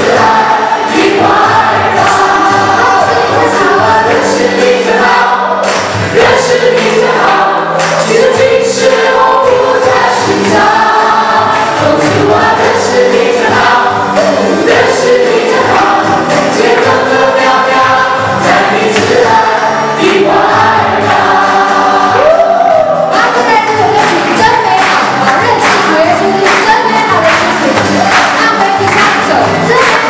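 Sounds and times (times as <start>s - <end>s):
group singing gospel song: 0.0s - 30.0s
musical accompaniment: 0.0s - 30.0s.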